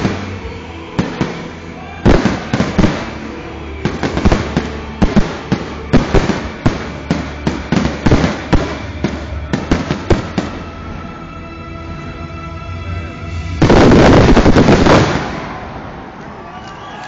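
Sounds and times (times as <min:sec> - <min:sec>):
fireworks bursting: 0:00.0 - 0:11.0, 0:13.4 - 0:16.4.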